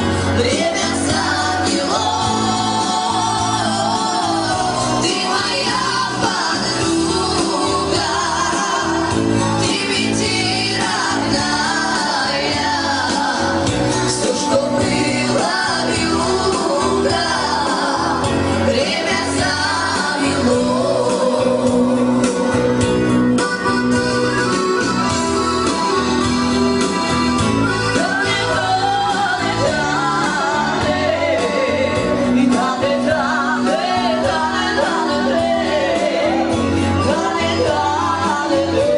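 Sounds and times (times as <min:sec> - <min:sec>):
instrumental backing with beat: 0:00.0 - 0:38.9
person singing: 0:00.0 - 0:38.9.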